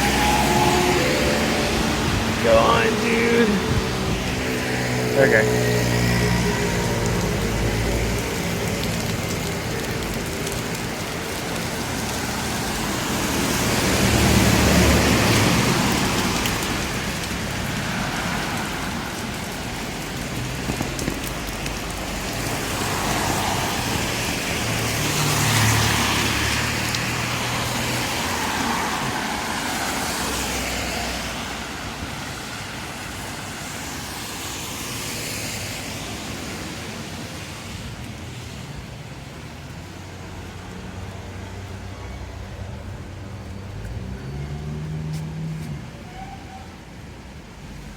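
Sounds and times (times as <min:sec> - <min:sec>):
cars passing on wet road: 0:00.0 - 0:47.9
rain falling on street: 0:00.0 - 0:47.9.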